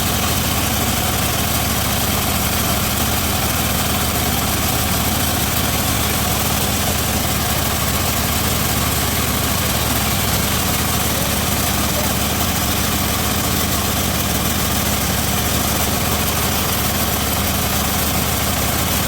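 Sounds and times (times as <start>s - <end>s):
bandsaw sawmill running: 0.0s - 19.0s.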